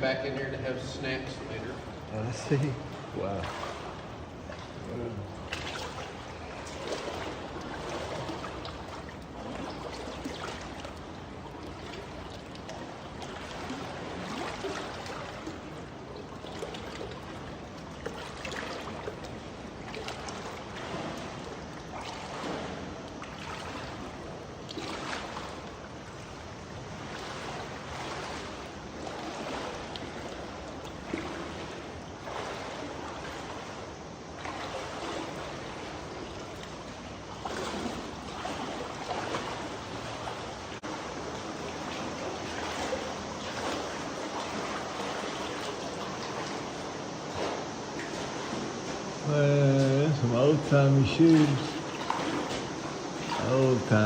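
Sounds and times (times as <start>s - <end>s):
trickle of running water: 0.0s - 54.0s
water sloshing from wading: 0.0s - 54.0s.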